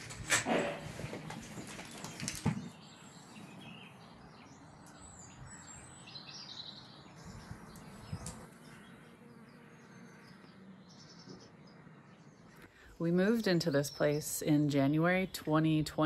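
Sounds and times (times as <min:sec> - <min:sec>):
small birds chirping: 0:01.5 - 0:15.8.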